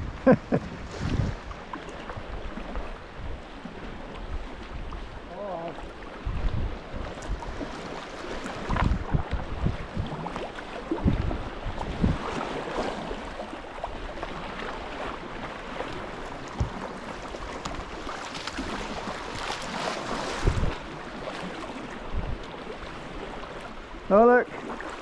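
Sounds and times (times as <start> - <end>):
wind gusts on microphone: 0.0 - 15.2, 15.9 - 25.0
water splashing around kayak: 0.0 - 25.0.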